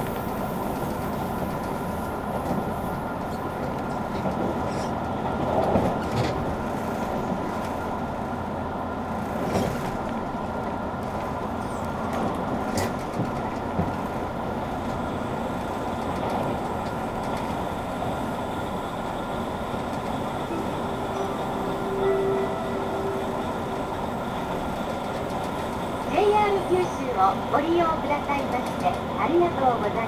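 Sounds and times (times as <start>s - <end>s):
rail joint clicks: 0.0s - 8.3s, 9.1s - 30.0s
train wheels rumbling on rail: 0.0s - 30.0s.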